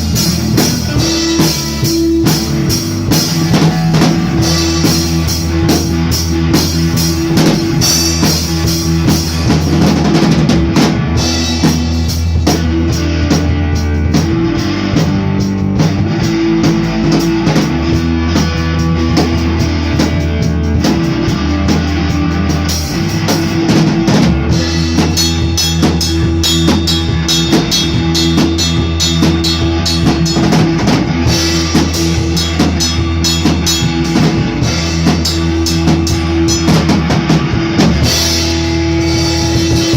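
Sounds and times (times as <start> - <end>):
drum kit beat: 0.0 - 39.9
rock band jamming: 0.0 - 39.9.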